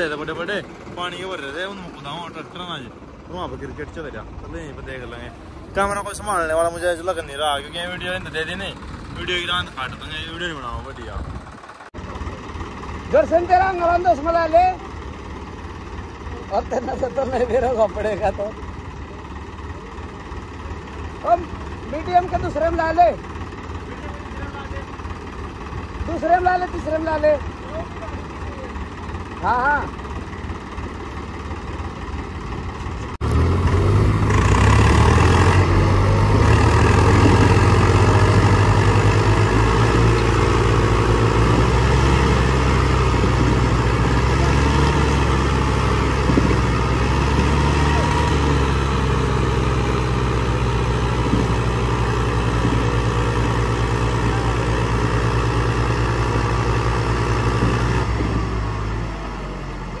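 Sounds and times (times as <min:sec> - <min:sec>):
tractor diesel engines straining: 0:00.0 - 1:00.0.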